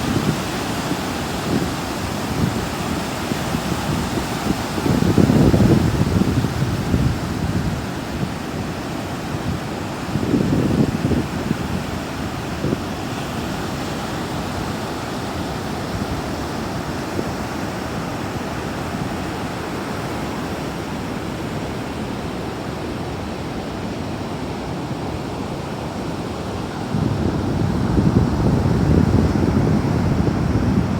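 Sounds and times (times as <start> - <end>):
ocean surf washing: 0.0 - 30.9.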